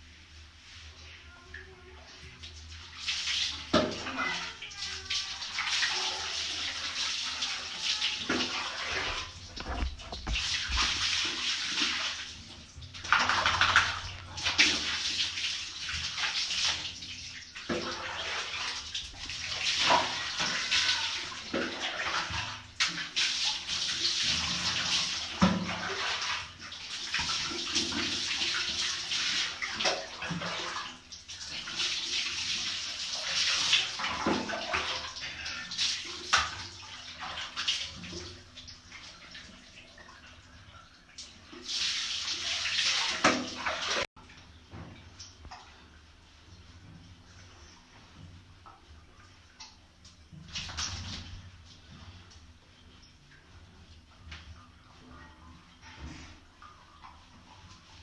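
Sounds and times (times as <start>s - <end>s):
water running and splashing: 2.1s - 58.0s.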